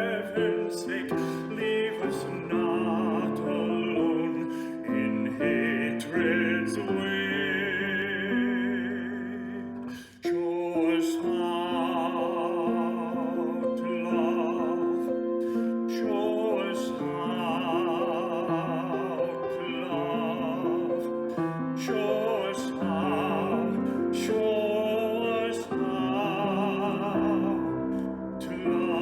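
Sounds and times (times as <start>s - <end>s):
person singing with vibrato: 0.0s - 29.0s
piano accompaniment: 0.0s - 29.0s.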